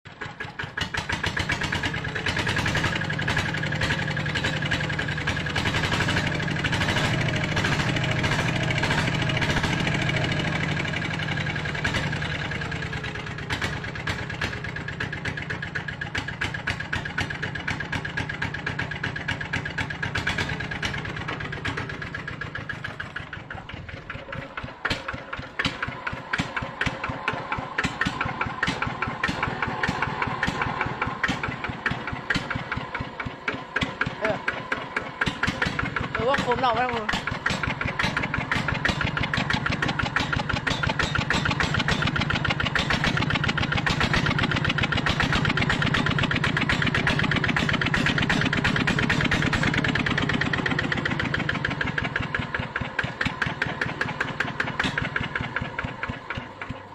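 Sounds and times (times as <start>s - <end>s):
diesel engine chugging: 0.1s - 56.9s.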